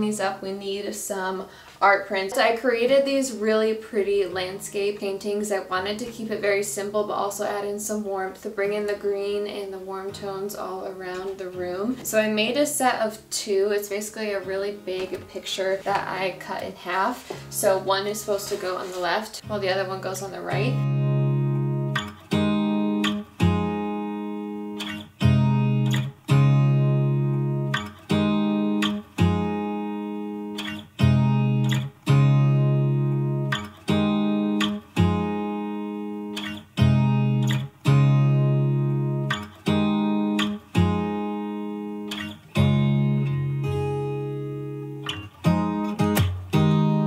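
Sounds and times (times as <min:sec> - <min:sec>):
acoustic guitar chords: 0:01.5 - 0:47.0.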